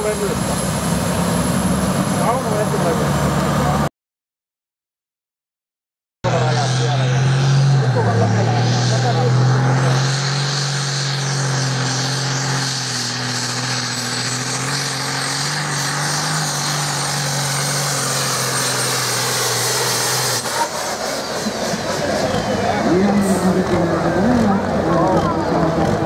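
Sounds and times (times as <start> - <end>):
engine running at high revs: 0.0 - 3.9, 6.3 - 26.0.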